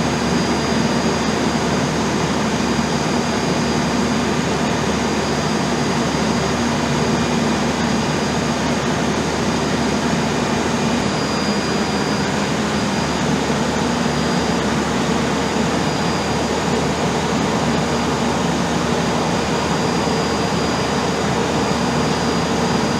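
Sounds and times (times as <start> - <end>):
generator engine drone: 0.0 - 22.9
thin high whine: 0.0 - 22.9.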